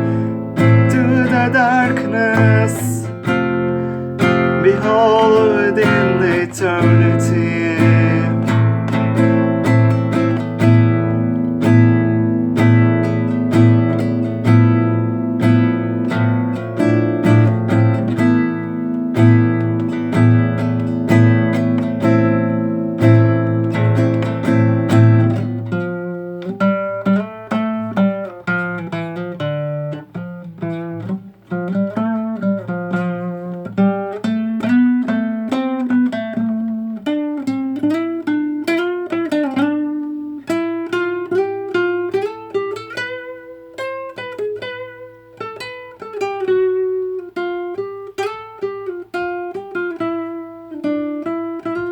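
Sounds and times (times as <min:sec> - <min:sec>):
classical guitar playing: 0:00.0 - 0:51.9.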